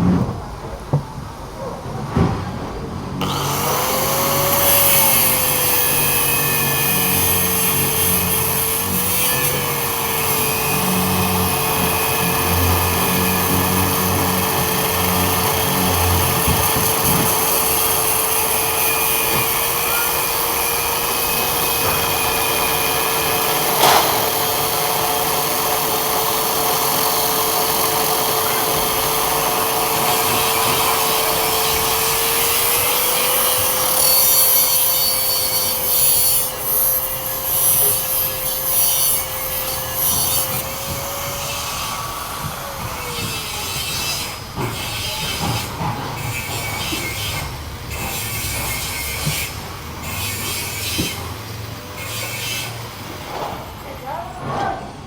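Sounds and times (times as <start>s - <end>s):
power tool motor running: 3.2s - 52.9s
rough rasping grinding: 3.2s - 53.0s.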